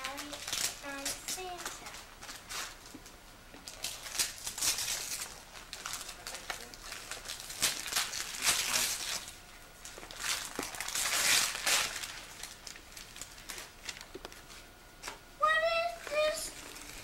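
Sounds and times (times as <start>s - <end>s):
wrapping paper tearing and crumpling: 0.0s - 3.0s, 3.6s - 14.6s, 15.9s - 17.0s.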